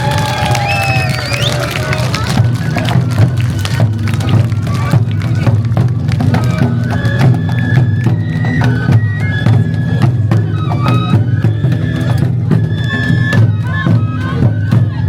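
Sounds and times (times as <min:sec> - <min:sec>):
bamboo flute melody: 0:00.0 - 0:15.0
rapid drum and percussion beats: 0:00.0 - 0:15.0.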